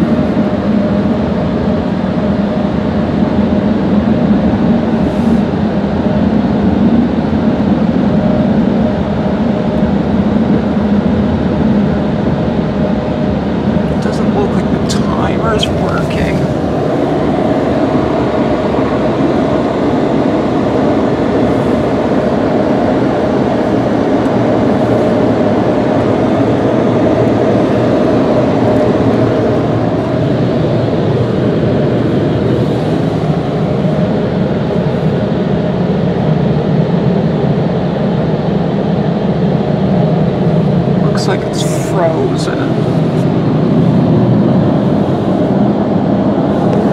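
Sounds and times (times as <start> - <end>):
car wash air dryers blowing: 0.0 - 46.9.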